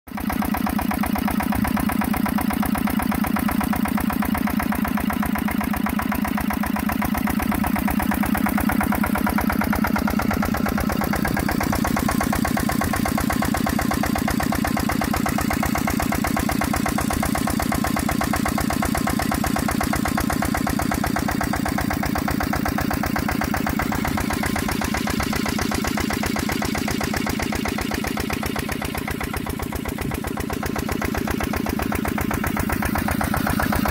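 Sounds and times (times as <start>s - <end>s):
diesel engine chugging: 0.1s - 33.9s.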